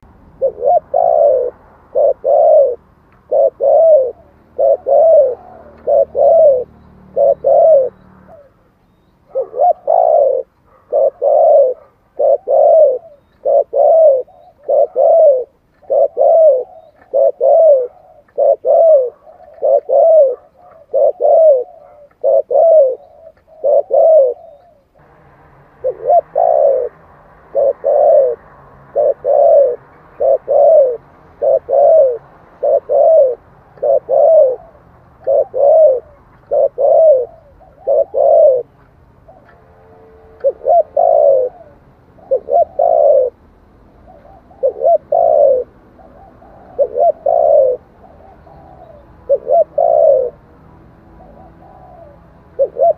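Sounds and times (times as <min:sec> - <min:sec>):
dove cooing: 0:00.0 - 0:25.0, 0:25.7 - 0:52.9.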